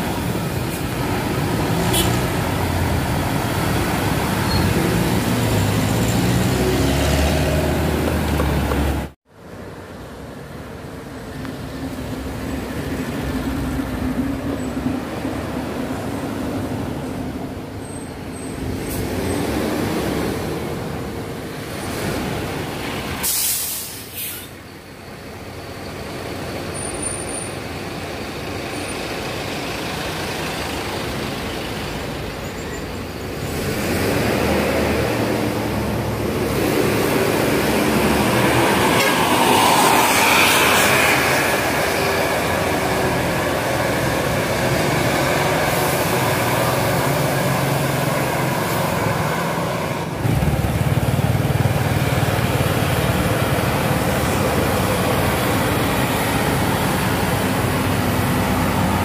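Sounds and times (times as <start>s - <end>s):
large vehicle noise: 0.0s - 59.0s.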